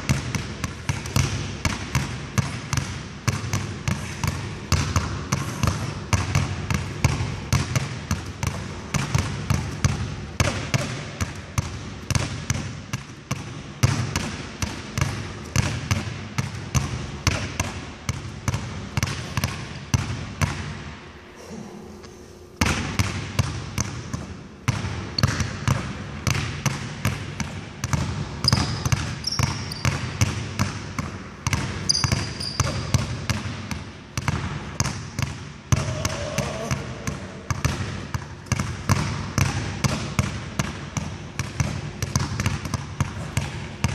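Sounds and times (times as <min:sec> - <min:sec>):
basketballs bouncing on wooden floor: 0:00.0 - 0:20.9, 0:22.6 - 0:43.9.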